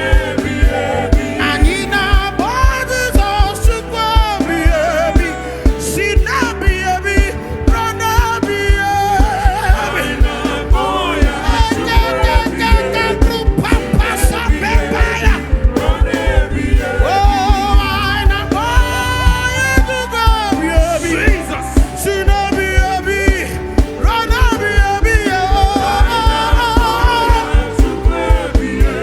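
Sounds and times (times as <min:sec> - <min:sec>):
band with kick-drum beat: 0:00.0 - 0:29.0
voices singing gospel: 0:00.0 - 0:29.0.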